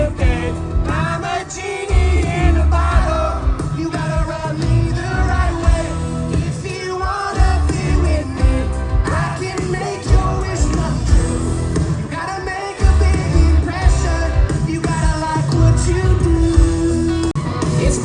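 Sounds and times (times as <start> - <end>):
country band playing: 0.0 - 18.0
man singing: 0.0 - 18.0.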